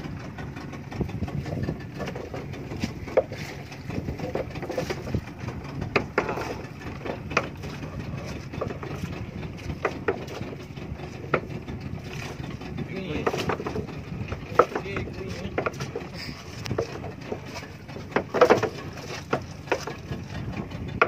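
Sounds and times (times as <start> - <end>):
knocks and clicks from boat: 0.0 - 21.0
steady low rumble: 0.0 - 21.0.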